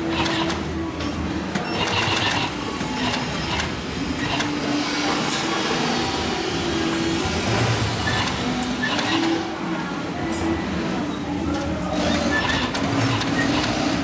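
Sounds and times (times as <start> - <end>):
sewing machine motor hum: 0.0 - 9.6, 11.8 - 14.0.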